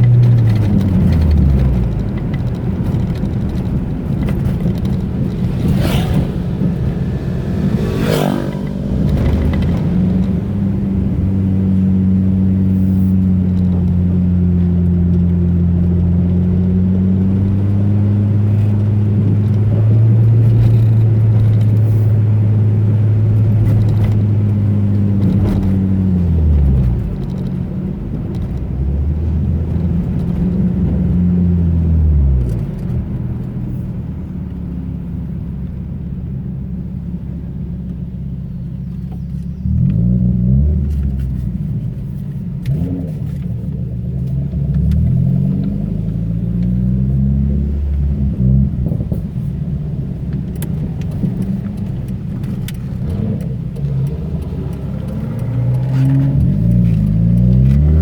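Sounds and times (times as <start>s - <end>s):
car engine droning: 0.0s - 58.0s
knocks and rattles from road bumps: 0.0s - 58.0s.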